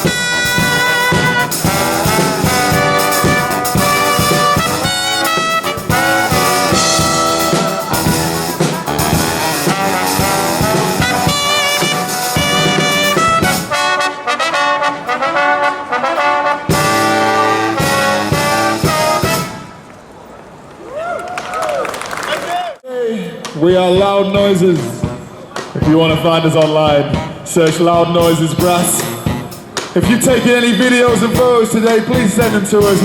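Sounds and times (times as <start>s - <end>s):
brass band playing: 0.0s - 19.9s, 25.8s - 33.0s.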